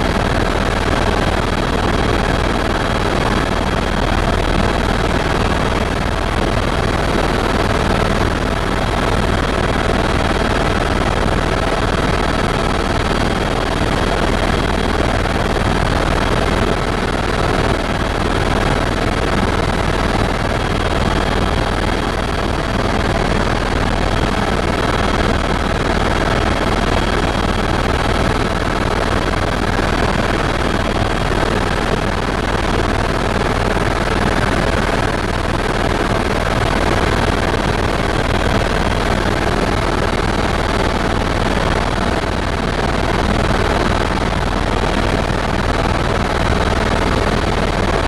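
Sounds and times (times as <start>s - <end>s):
helicopter cabin noise: 0.0s - 48.0s.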